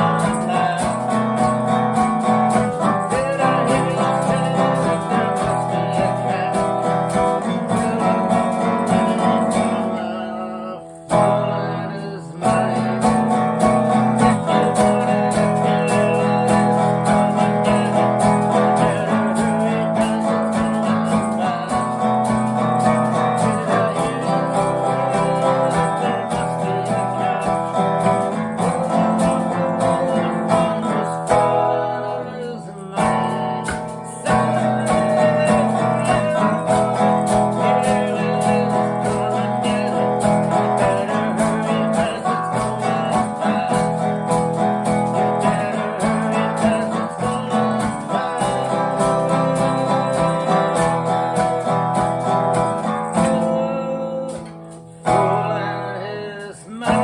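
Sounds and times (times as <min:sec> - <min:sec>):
acoustic guitar strummed: 0:00.0 - 0:57.0
man singing: 0:00.0 - 0:57.0.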